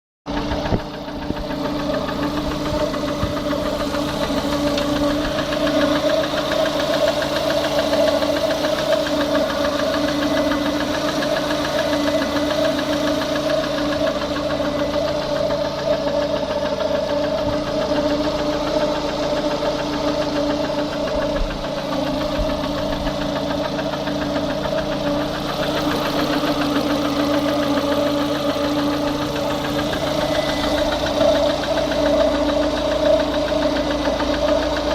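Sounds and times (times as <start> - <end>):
car engine idling with knocking: 0.3 - 34.9.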